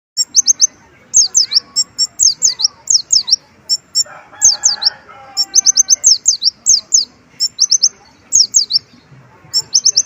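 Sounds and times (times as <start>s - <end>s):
bird singing sharp high notes: 0.2s - 10.0s.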